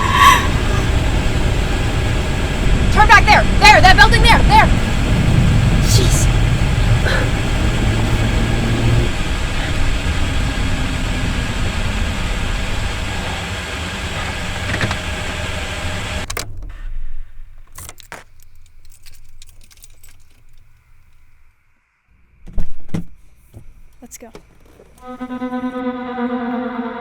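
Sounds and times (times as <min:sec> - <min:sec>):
car engine and road noise: 0:00.0 - 0:22.6.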